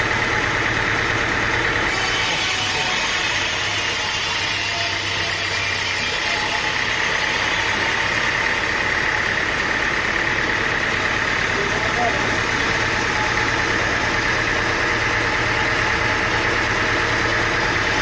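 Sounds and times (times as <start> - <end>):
sawmill machine running: 0.0 - 18.0.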